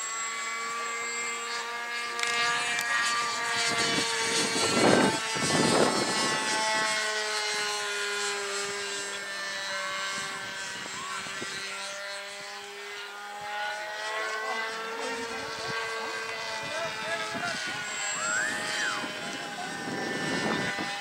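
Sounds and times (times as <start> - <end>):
model airplane motor droning: 0.0 - 21.0.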